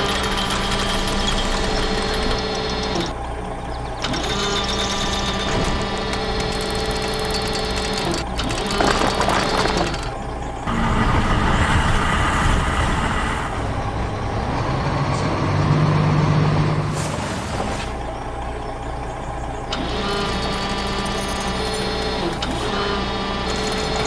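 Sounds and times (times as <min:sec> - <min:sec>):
heavy truck engine rumbling: 0:00.0 - 0:24.0.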